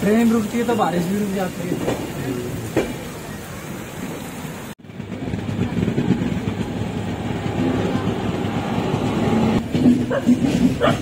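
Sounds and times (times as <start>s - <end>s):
rain falling on tracks: 0.0s - 11.0s
train rumbling on rails: 0.0s - 11.0s.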